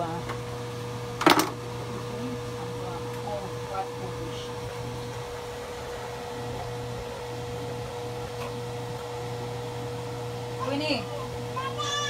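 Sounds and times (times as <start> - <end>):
fan motor whirring: 0.0 - 12.0.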